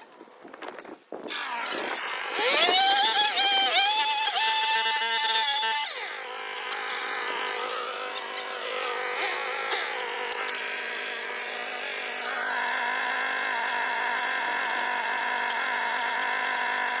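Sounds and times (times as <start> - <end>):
chainsaw engine revving: 1.3 - 17.0.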